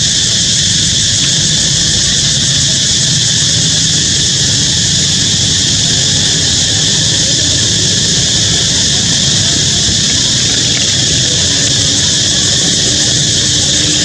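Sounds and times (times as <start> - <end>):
loud steady hissing: 0.0 - 14.0.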